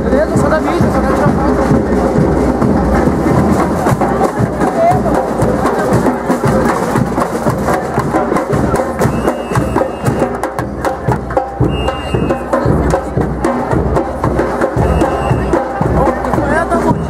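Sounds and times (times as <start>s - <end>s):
crowd drumming: 0.0s - 17.0s.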